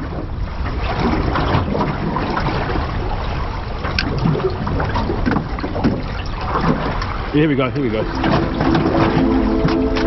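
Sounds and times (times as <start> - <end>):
water lapping against boat hull: 0.0 - 10.0
wind buffeting microphone: 0.0 - 10.0.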